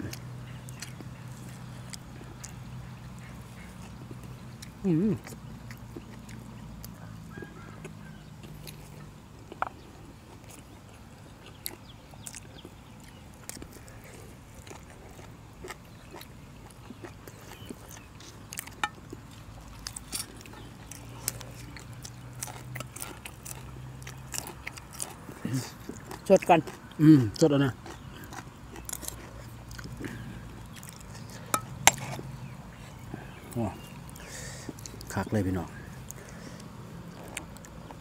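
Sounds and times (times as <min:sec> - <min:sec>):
chewing and crunching: 0:00.0 - 0:38.0.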